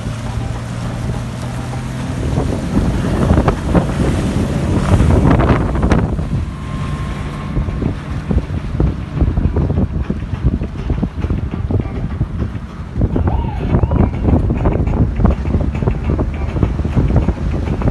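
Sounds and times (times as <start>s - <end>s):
outboard motor humming: 0.0s - 17.9s
water splashing: 0.0s - 17.9s
wind buffeting microphone: 0.0s - 17.9s.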